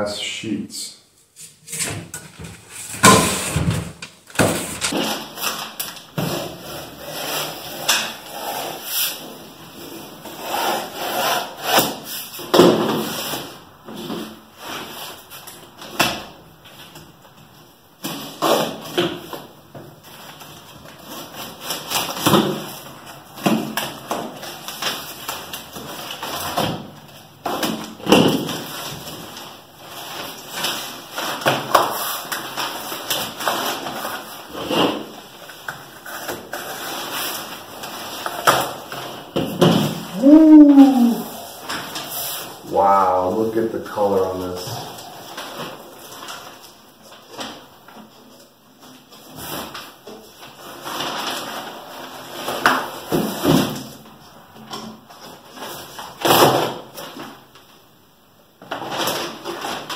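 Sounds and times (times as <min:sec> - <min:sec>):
packaging rustling and scraping: 0:01.3 - 0:57.8, 0:58.6 - 0:59.9.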